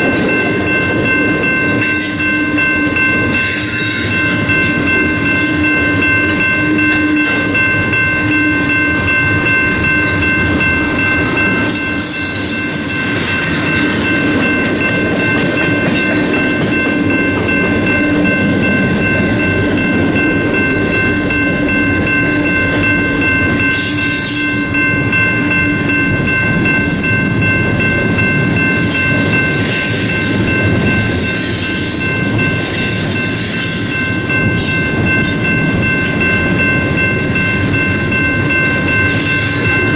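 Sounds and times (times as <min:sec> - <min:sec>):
high ringing tones: 0:00.0 - 0:39.9
train wheels rumbling on rails: 0:00.0 - 0:39.9.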